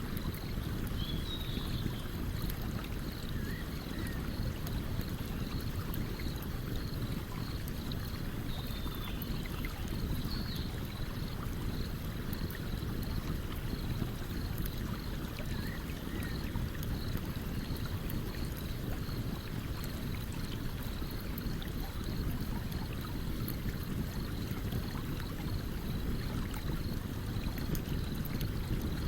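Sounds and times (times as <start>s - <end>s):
stream running: 0.0s - 29.0s.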